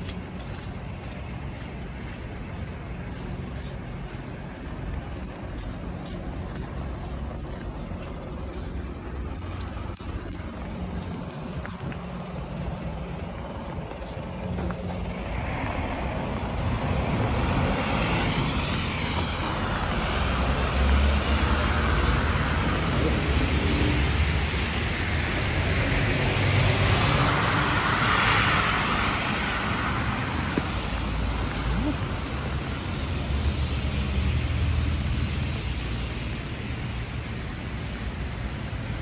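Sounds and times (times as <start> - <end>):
vehicles passing on wet road: 0.0 - 39.0.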